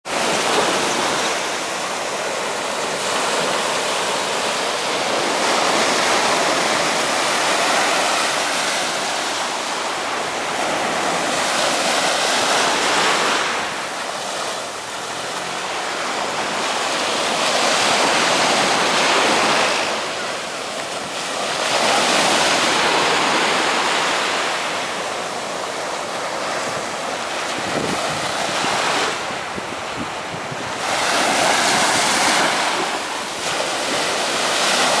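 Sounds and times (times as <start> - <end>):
waves washing up a sandy beach: 0.1 - 35.0.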